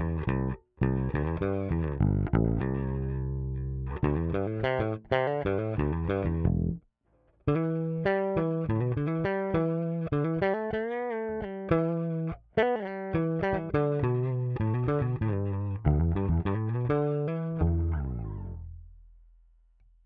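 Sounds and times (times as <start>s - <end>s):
electric bass plucked notes: 0.0s - 6.8s, 7.5s - 19.1s.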